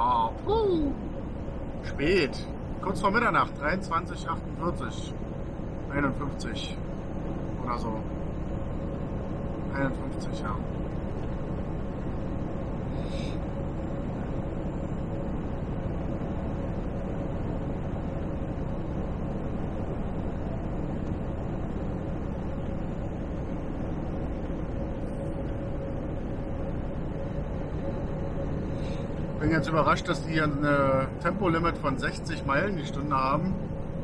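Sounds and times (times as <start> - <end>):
diesel engine running: 0.0 - 34.0
faint steady hum: 0.0 - 34.0.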